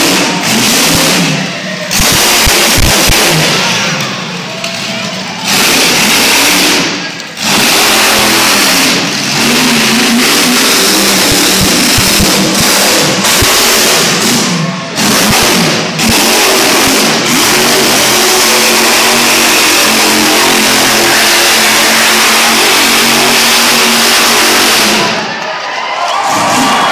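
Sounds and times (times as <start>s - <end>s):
monster truck engine revving: 0.0s - 26.9s.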